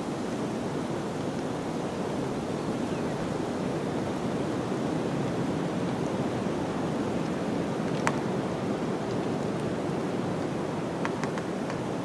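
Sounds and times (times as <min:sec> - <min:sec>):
rainforest ambience rushing noise: 0:00.0 - 0:12.0.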